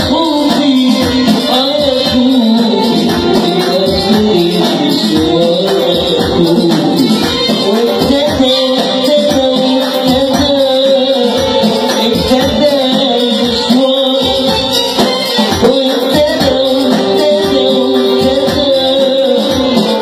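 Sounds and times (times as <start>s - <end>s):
percussion beat: 0.0s - 20.0s.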